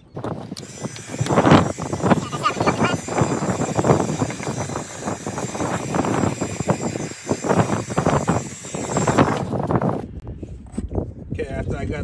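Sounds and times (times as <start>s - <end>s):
heat gun blowing air with whine: 0.2s - 10.0s.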